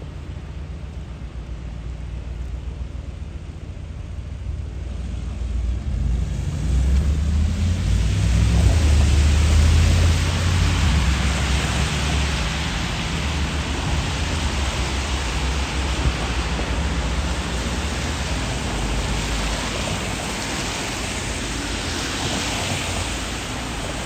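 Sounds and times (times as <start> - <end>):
low traffic rumble: 0.0 - 24.0
rain on a street: 0.0 - 24.0.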